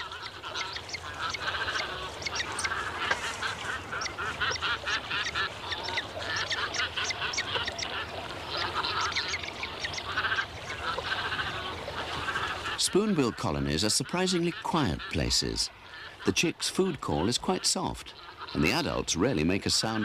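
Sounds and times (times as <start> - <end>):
waterbird colony calling: 0.0 - 20.0.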